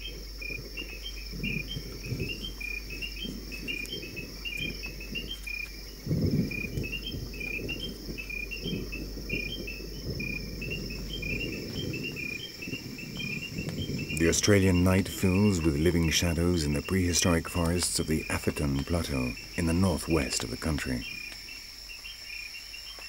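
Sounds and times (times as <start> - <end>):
low rumble: 0.0 - 21.2
insect chirping call: 0.0 - 23.0
insect drone: 0.0 - 23.0.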